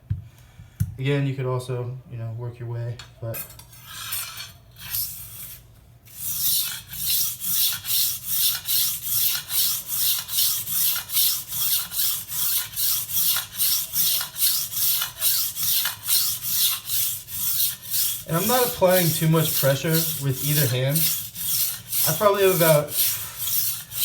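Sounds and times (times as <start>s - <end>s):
knife scraping on whetstone: 3.4s - 24.0s.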